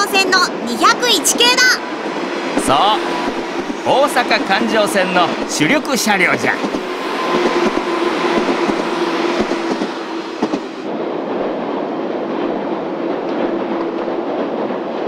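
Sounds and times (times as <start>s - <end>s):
electric train running past: 0.0s - 15.0s.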